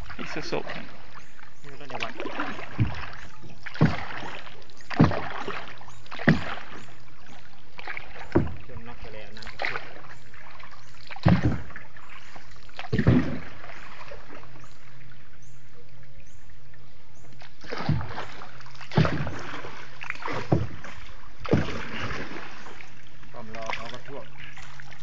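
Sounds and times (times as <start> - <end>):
paddle splashing water: 0.0 - 25.0.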